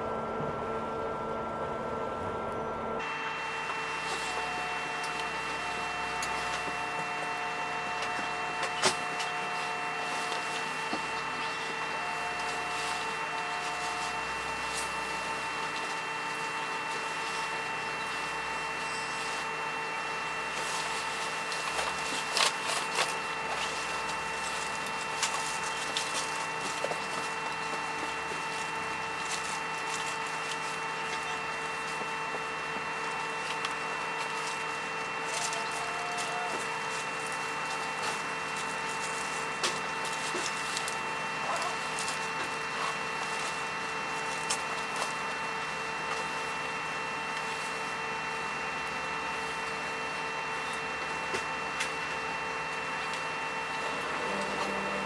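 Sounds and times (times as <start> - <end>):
boat engines droning: 0.0 - 44.9, 50.3 - 55.0.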